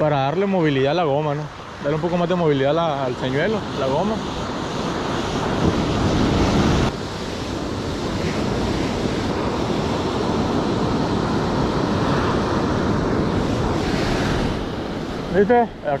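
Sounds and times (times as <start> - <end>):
ocean surf washing on beach: 0.0 - 16.0
wind buffeting microphone: 0.0 - 16.0.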